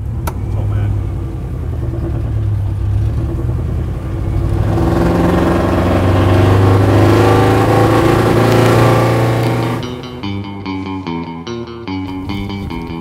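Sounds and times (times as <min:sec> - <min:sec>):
truck engine passing by: 0:00.0 - 0:11.0.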